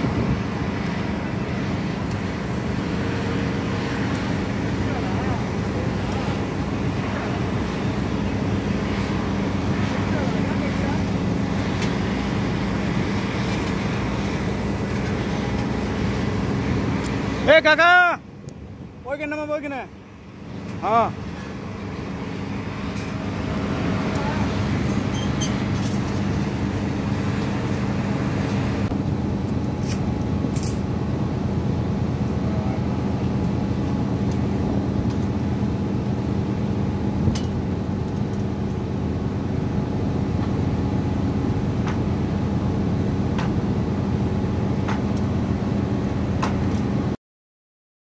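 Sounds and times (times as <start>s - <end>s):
crane engine humming: 0.0s - 47.1s.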